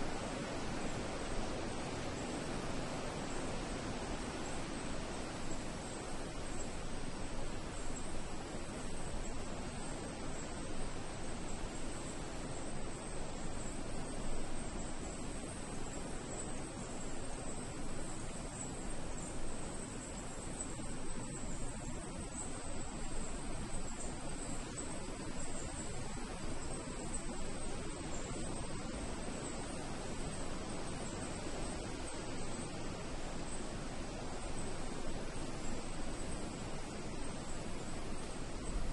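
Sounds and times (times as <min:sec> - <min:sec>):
crickets trilling: 0:00.0 - 0:38.9
low background hiss: 0:00.0 - 0:38.9.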